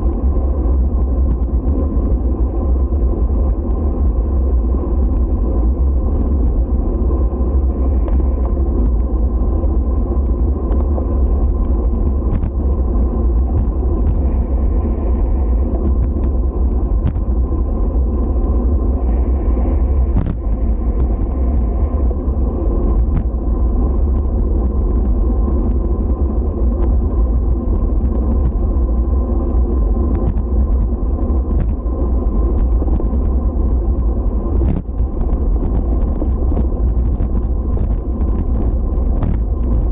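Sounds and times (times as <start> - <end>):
wheels rolling over pavement: 0.0 - 39.9.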